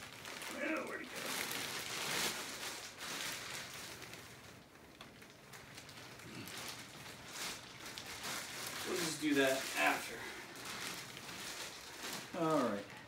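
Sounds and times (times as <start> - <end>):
plastic wrapping rustling: 0.0 - 13.0.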